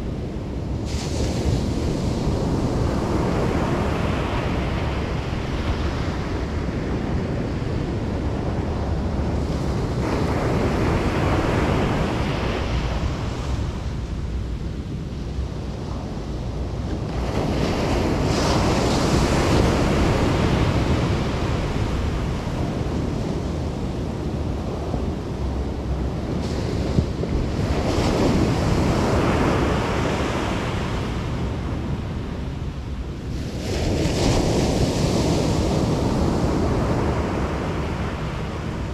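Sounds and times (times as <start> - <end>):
surf breaking on a beach: 0.0 - 38.9
wind on the microphone: 0.0 - 38.9.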